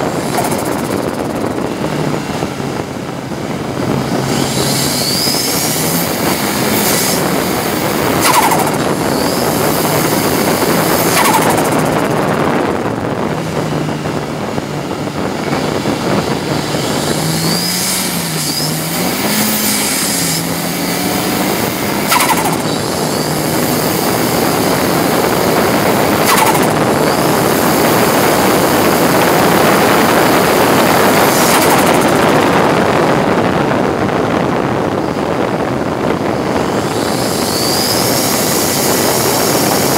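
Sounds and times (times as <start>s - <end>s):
car engine running hard: 0.0s - 39.9s
wind and road noise: 0.0s - 39.9s.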